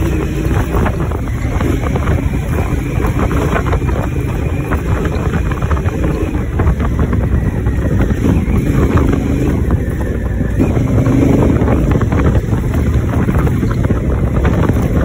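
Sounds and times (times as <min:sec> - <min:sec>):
knocks and rattles: 0:00.0 - 0:15.0
motorcycle engine running: 0:00.0 - 0:15.0
wind buffeting on microphone: 0:00.0 - 0:15.0.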